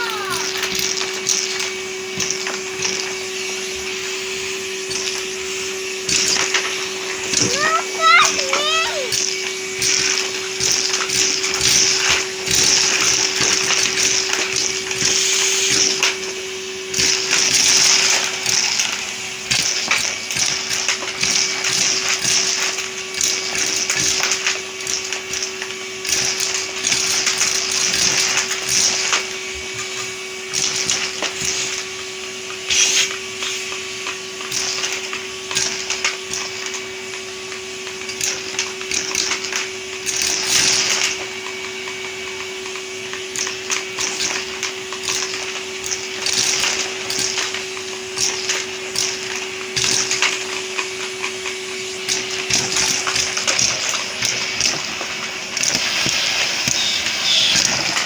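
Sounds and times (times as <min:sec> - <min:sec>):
vacuum cleaner motor hum: 0:00.0 - 0:58.0.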